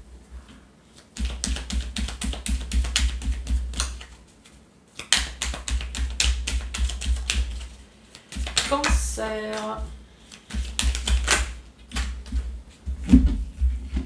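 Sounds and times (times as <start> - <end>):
cards being shuffled: 0.9 - 12.4.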